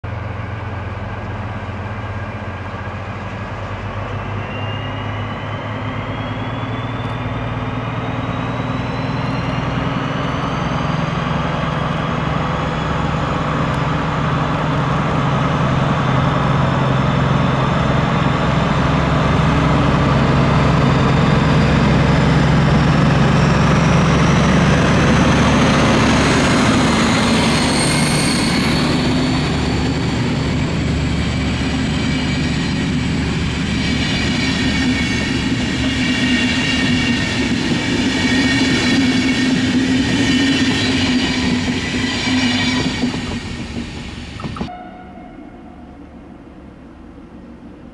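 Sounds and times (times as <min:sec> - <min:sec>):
diesel locomotives passing: 0:00.1 - 0:47.9.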